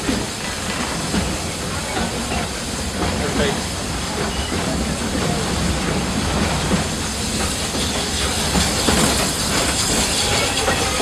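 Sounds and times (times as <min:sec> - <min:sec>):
steam train rumbling: 0:00.0 - 0:11.0.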